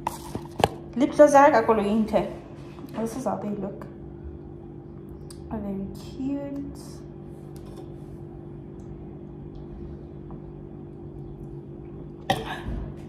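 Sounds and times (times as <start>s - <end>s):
low hum of fixed tones: 0.7s - 13.0s.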